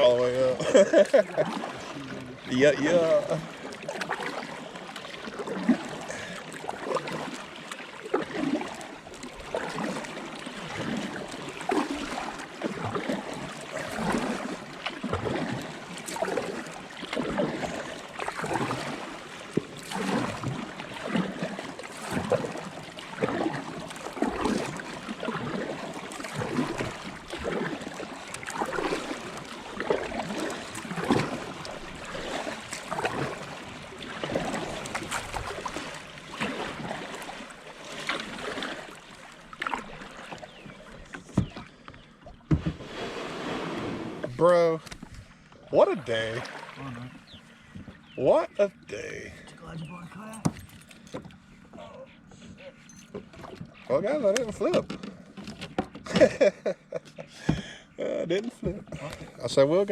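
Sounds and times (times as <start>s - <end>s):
paddle strokes swishing through water: 0.0s - 59.9s
water washing along hull: 0.0s - 59.9s.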